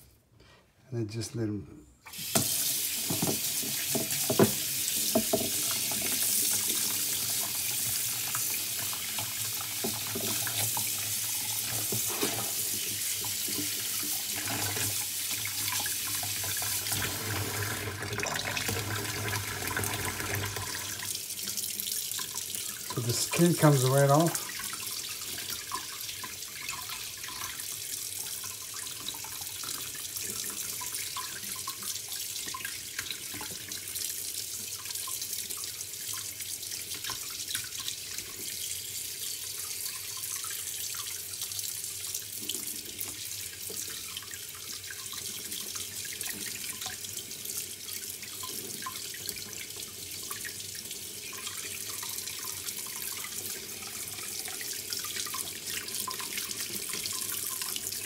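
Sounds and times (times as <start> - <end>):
kitchen tap running into sink: 2.1 - 58.0.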